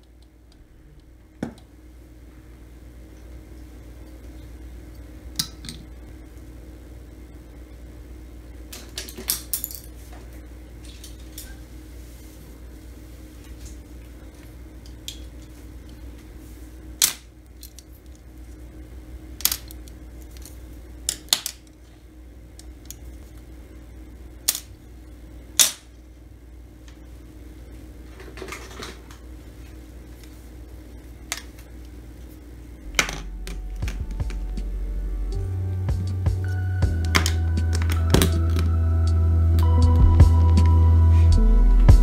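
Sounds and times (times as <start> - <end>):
low room hum: 0.0 - 42.0.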